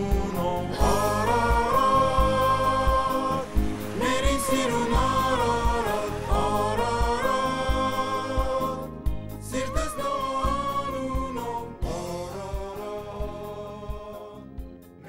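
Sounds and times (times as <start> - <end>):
band music with low beat: 0.0 - 15.0.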